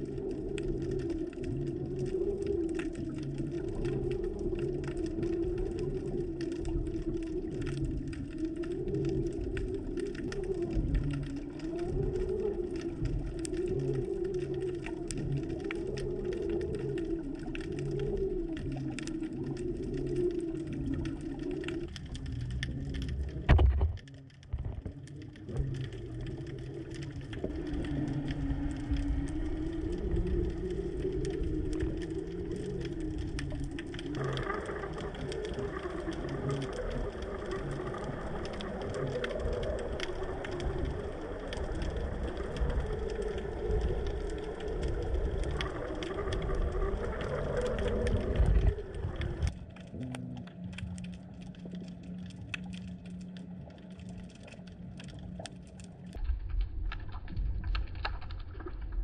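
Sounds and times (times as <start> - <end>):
faint clicks: 0.0 - 59.0
underwater low drone: 0.0 - 59.0.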